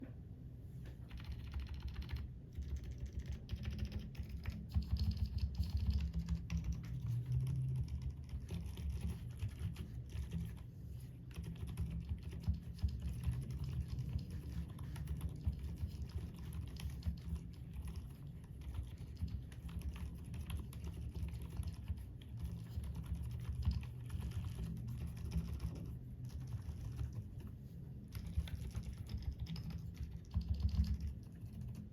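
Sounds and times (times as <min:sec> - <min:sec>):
fast typing on keyboard: 0:01.0 - 0:27.5, 0:28.1 - 0:31.9.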